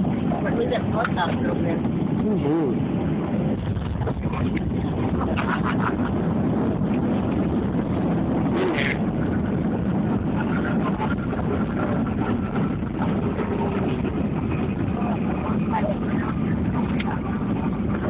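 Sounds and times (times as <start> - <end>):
jet engines rumbling: 0.0 - 18.0
rushing air: 1.4 - 18.0.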